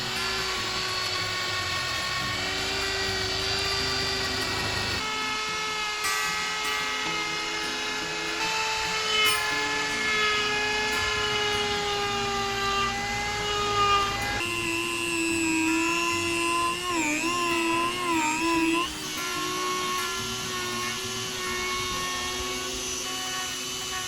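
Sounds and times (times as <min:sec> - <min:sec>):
power tool cutting wood: 0:00.0 - 0:24.0.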